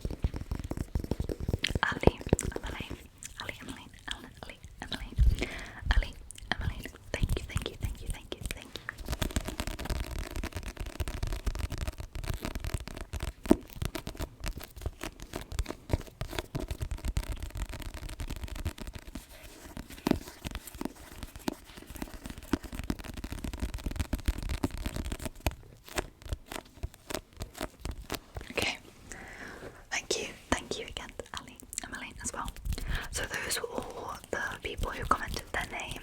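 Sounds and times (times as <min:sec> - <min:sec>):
soft clicks and crackles: 0:00.0 - 0:29.2, 0:29.9 - 0:36.0.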